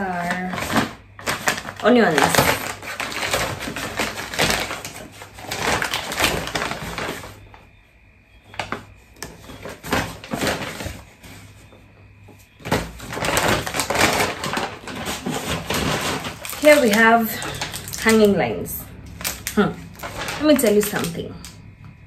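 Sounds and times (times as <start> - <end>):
paper bag rustling: 0.0 - 7.6, 8.4 - 21.6.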